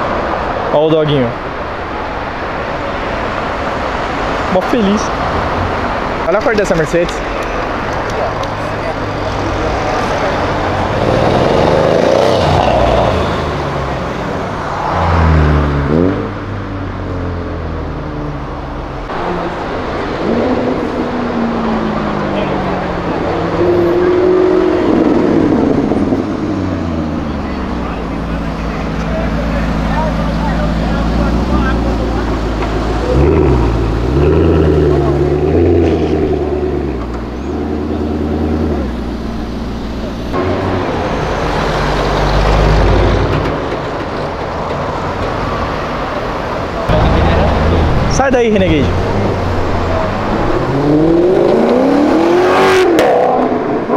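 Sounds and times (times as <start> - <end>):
traffic noise: 0.0 - 53.9
car engine accelerating: 7.3 - 53.9.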